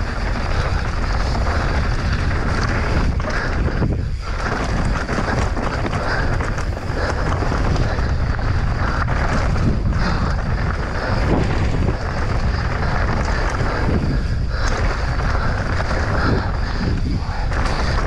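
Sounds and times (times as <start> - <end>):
bike knocks and rattles: 0.0 - 18.0
wind buffeting microphone: 0.0 - 18.0.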